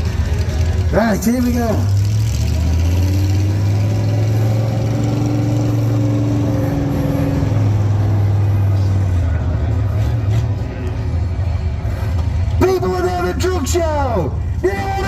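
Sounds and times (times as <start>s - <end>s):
truck engine under throttle: 0.0s - 12.6s.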